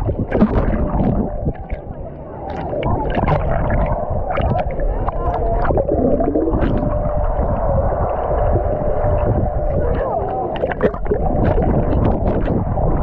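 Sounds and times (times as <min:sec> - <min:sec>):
deep rumble: 0:00.0 - 0:13.0
faint warbling tones: 0:00.0 - 0:13.0
muffled water churning and sloshing: 0:00.0 - 0:13.0.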